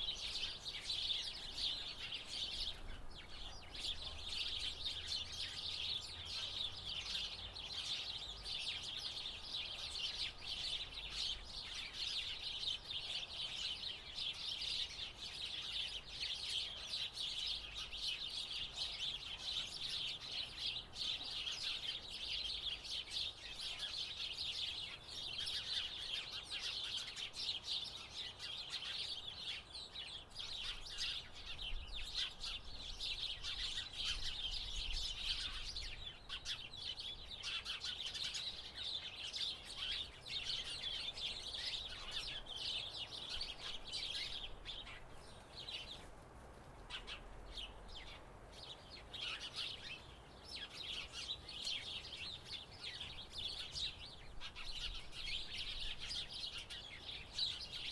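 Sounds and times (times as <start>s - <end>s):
sparrows chirping: 0.0s - 57.9s.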